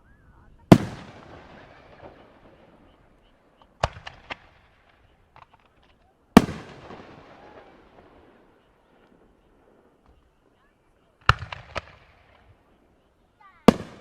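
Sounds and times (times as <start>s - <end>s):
fireworks boom with rolling echo: 0.0s - 13.0s, 13.6s - 14.0s
fireworks bursting: 0.6s - 14.0s.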